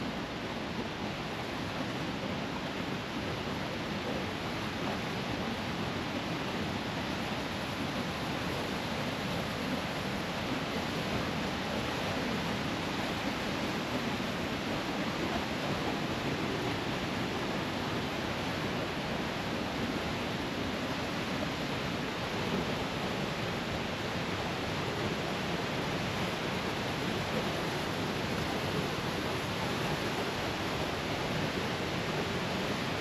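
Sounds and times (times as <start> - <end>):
waterfall rushing: 2.1 - 33.0.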